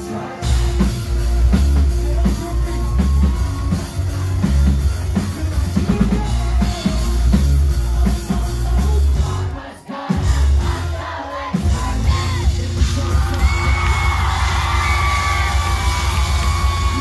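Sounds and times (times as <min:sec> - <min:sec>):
live rock band: 0:00.0 - 0:17.0
person singing: 0:00.0 - 0:17.0.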